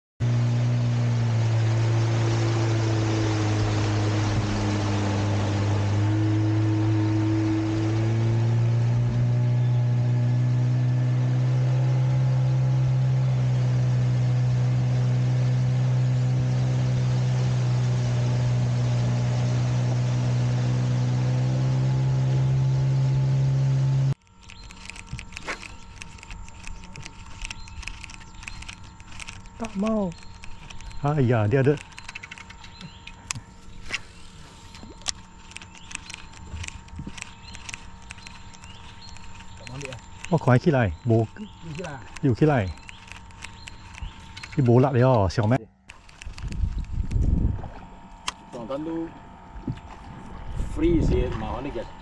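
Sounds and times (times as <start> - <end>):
boat engine droning: 0.2 - 52.0.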